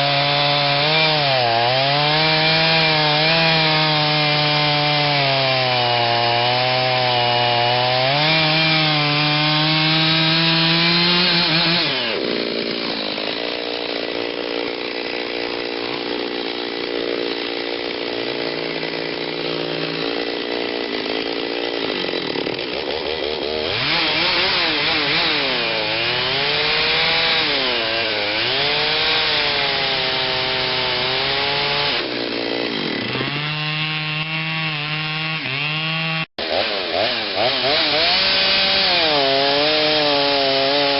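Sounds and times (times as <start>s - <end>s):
chainsaw cutting into wood: 0.0s - 40.9s.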